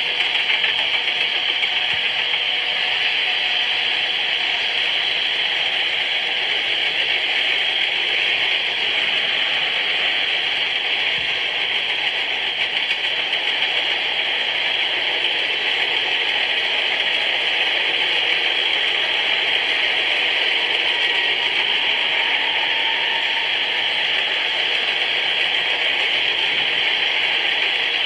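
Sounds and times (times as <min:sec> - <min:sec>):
train wheels rushing on rail: 0:00.0 - 0:28.0.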